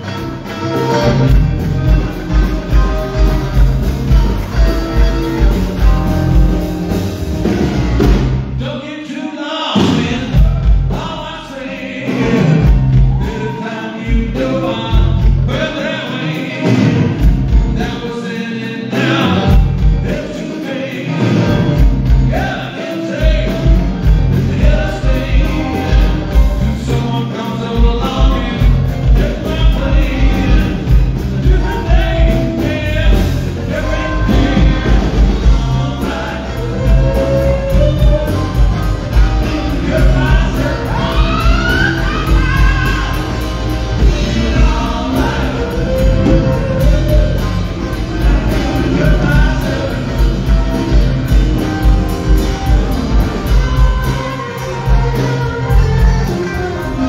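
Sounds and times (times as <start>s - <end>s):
live rock band playing: 0.0s - 8.9s, 9.6s - 57.0s
man singing: 8.6s - 57.0s.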